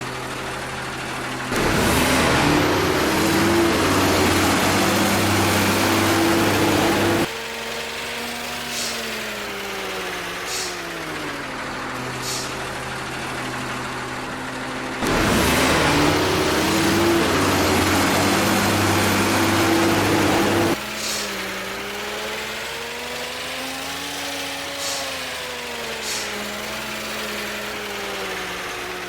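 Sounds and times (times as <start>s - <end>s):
truck engine idling and revving: 0.0s - 29.0s.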